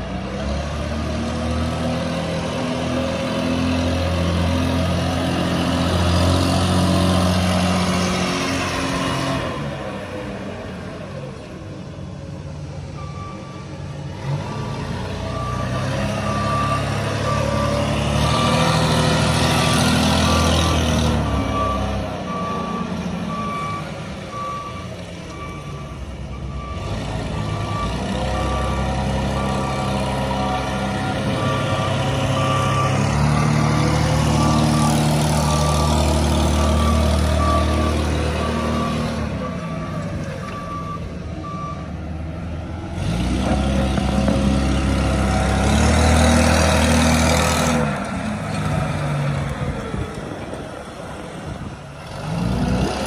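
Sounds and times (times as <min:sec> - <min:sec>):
forklift engine running: 0:00.0 - 0:53.0.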